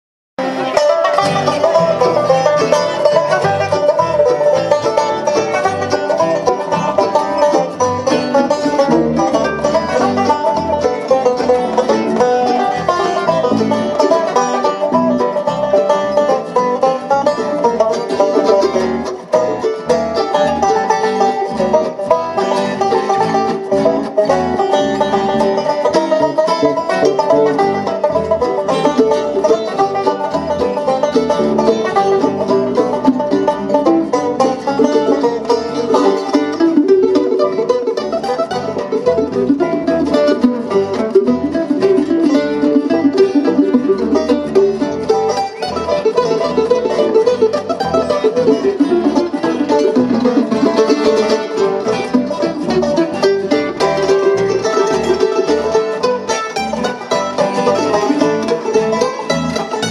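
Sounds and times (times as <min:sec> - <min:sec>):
banjo lead: 0:00.4 - 0:59.9
mandolin: 0:00.4 - 0:59.9
strummed acoustic guitar: 0:00.4 - 0:59.9.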